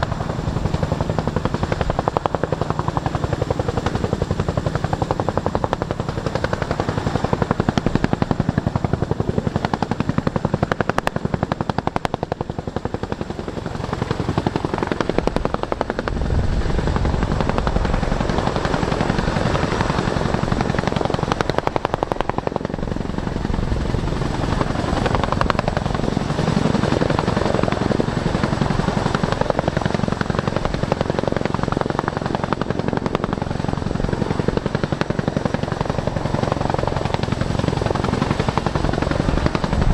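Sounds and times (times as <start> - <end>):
helicopter rotor blade chop: 0.0 - 39.9
helicopter turbine engines: 0.0 - 39.9.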